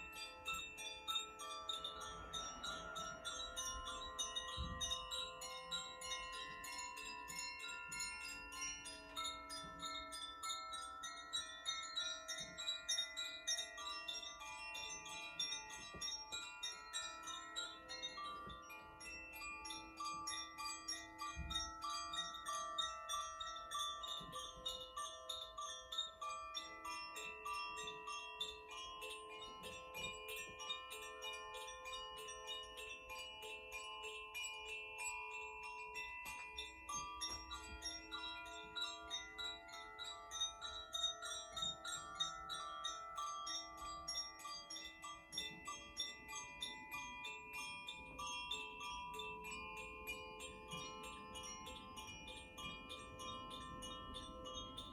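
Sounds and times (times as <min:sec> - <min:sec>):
chimes tinkling: 0:00.0 - 0:54.9.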